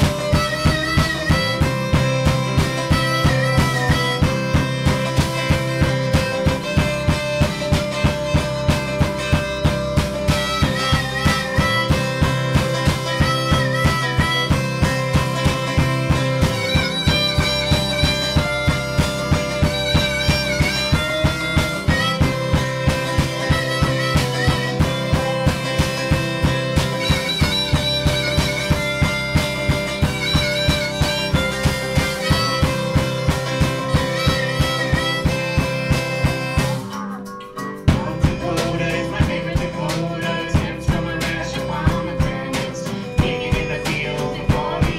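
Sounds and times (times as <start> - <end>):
drum kit beat: 0.0 - 44.9
harmonica: 0.0 - 44.9
live band playing: 0.0 - 44.9.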